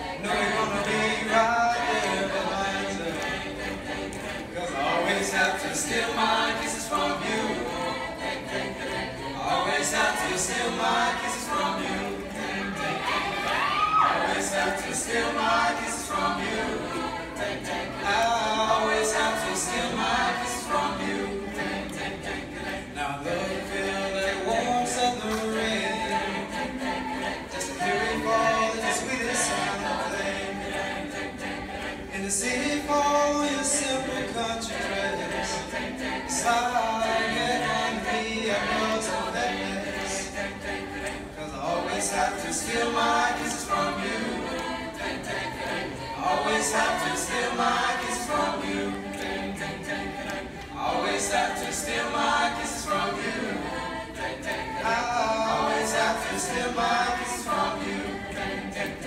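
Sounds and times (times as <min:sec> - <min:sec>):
backing voices in harmony: 0:00.0 - 0:59.0.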